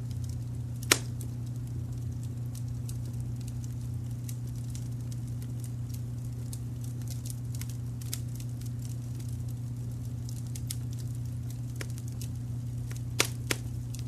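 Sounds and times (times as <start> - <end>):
low rumble of brown noise: 0.0 - 14.0
wood fire snaps and pops: 0.0 - 14.0.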